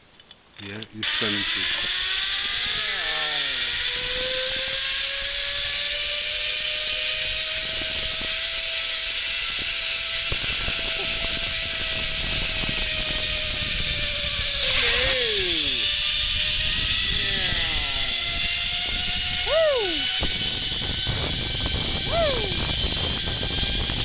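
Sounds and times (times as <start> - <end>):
zip-line pulleys whirring on cable: 1.0 - 24.0.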